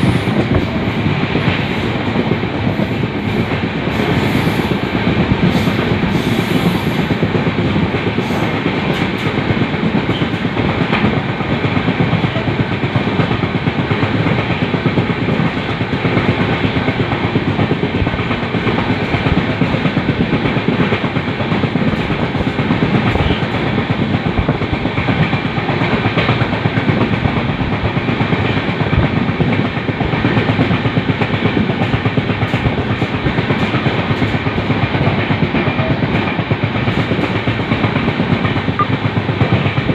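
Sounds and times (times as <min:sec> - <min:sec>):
train wheels rolling on rails: 0:00.0 - 0:39.9.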